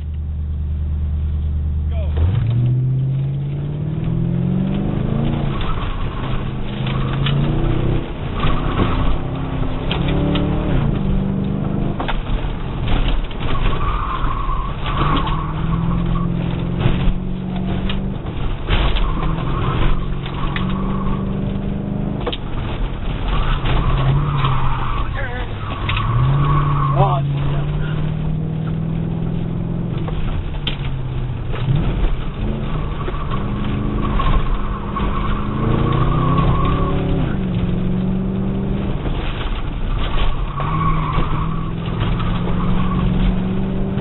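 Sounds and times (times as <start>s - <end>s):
car engine revving: 0.0s - 44.0s
tires squealing: 1.9s - 44.0s.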